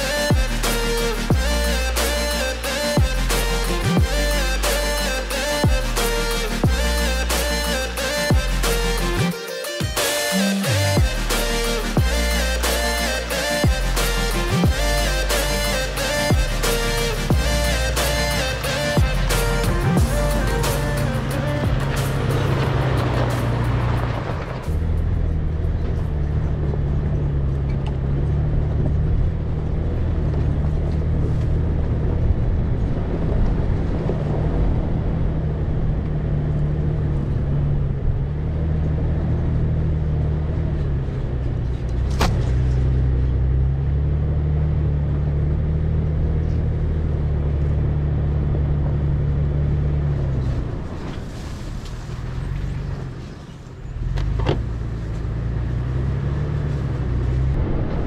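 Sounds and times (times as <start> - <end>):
engine running under load: 0.0 - 9.3, 10.0 - 58.0
tyre and road noise: 0.0 - 58.0.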